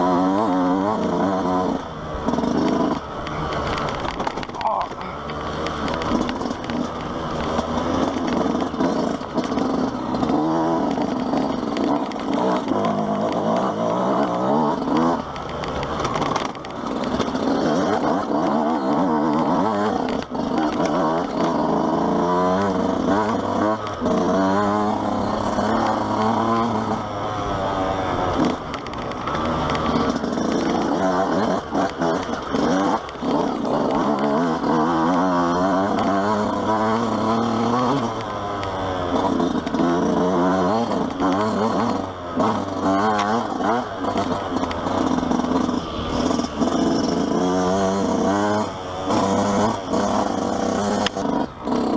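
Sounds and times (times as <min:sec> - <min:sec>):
two-stroke motorbike revving: 0:00.0 - 0:51.9.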